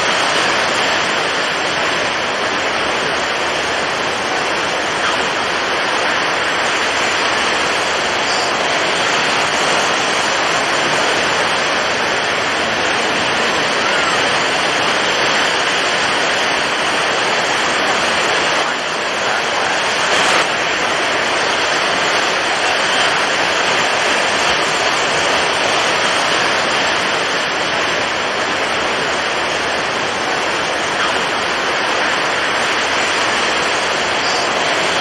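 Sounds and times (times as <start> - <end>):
heavy surf: 0.0 - 35.0
strong wind: 0.0 - 35.0.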